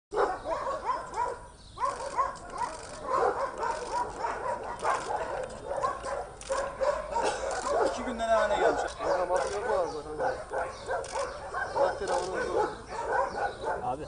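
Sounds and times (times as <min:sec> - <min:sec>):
dog yapping: 0:00.2 - 0:13.9.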